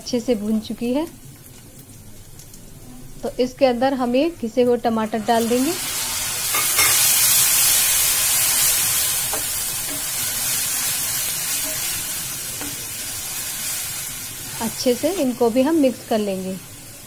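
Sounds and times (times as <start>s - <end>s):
tomato sizzling in hot oil: 0.0s - 17.0s.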